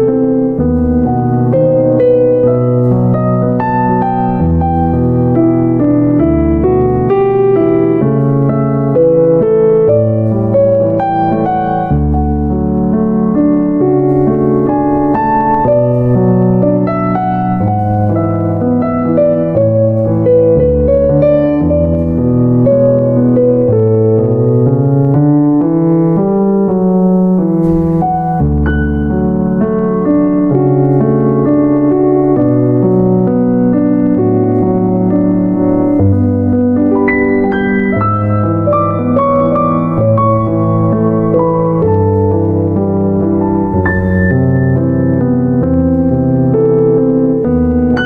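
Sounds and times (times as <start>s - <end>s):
piano music: 0.0s - 48.0s.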